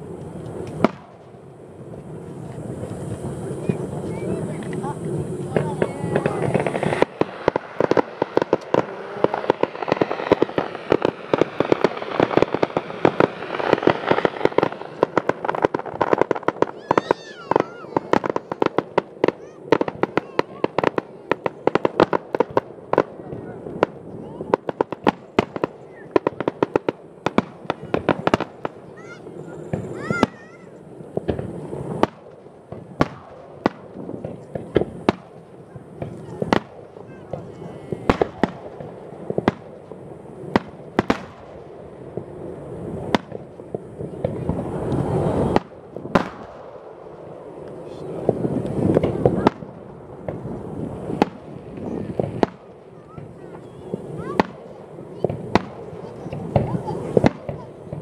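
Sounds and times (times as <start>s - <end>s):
fireworks bangs and pops: 0.0s - 58.0s
fireworks crackle: 0.0s - 58.0s.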